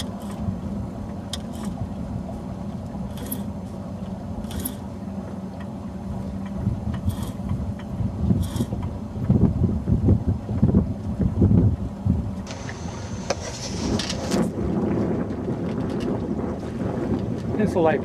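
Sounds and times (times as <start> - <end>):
steady low hum: 0.0 - 18.0
water splashing against hull: 0.0 - 18.0
wind buffeting microphone: 0.0 - 18.0.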